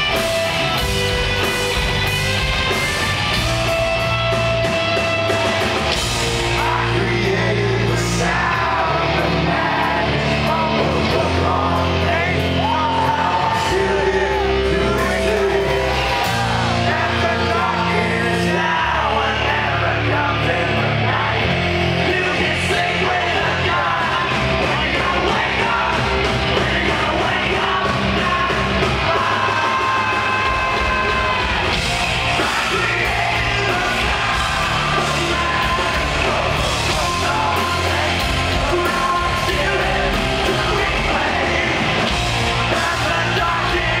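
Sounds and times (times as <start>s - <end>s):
hard rock band playing live: 0.0s - 44.0s
singer yelling and singing: 0.0s - 44.0s.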